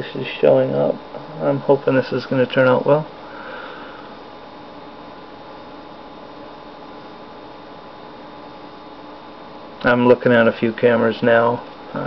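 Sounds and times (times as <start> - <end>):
computer hum and hiss: 0.0 - 12.0.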